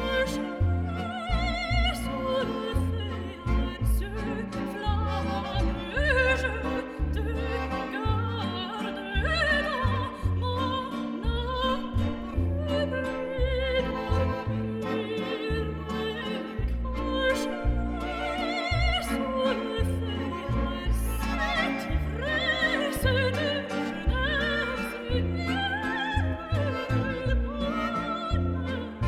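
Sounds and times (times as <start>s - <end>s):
pulsing low bass: 0.0s - 8.5s, 9.2s - 14.8s, 16.6s - 25.5s, 26.2s - 29.0s
vibrato melody: 0.0s - 29.0s.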